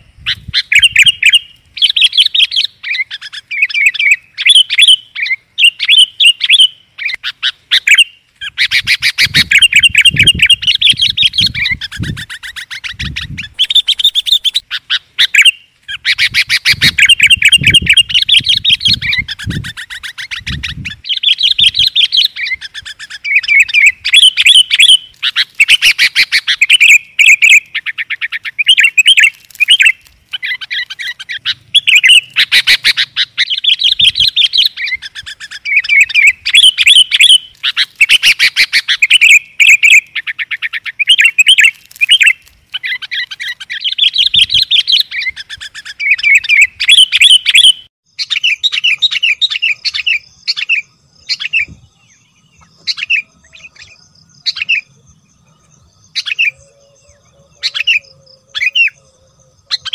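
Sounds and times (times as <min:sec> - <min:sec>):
bulbuls calling: 0:00.0 - 0:59.9.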